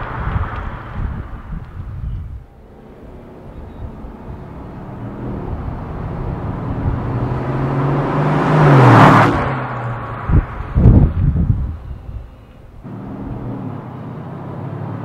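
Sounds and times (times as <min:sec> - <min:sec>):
car engine driving past: 0:02.6 - 0:15.0.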